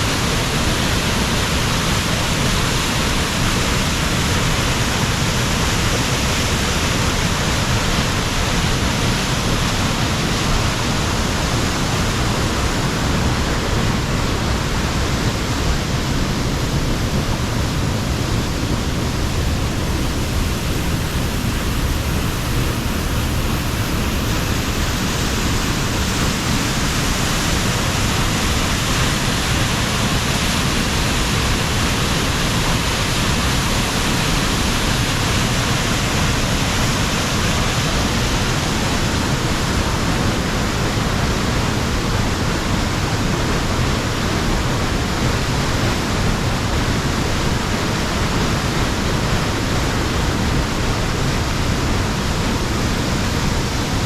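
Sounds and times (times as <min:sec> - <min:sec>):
falling water rushing: 0:00.0 - 0:54.0.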